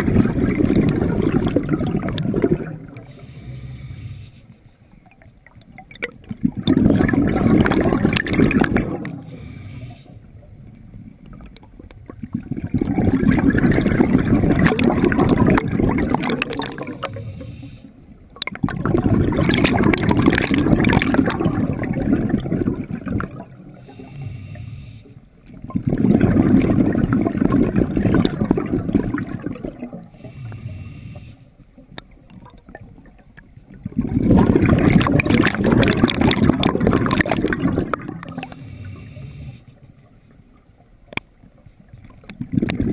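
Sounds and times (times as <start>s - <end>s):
exhaled bubbles underwater: 0.0s - 4.1s, 5.0s - 40.1s, 40.8s - 42.9s.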